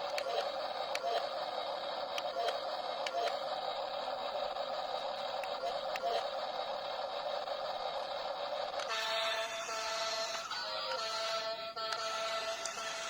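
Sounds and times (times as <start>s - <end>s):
small electric motor whine: 0.0s - 13.0s.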